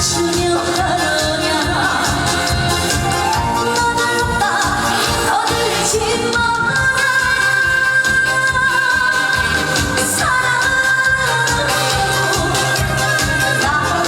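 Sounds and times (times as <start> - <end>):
amplified band with steady beat: 0.0 - 14.0
woman singing: 0.0 - 14.0.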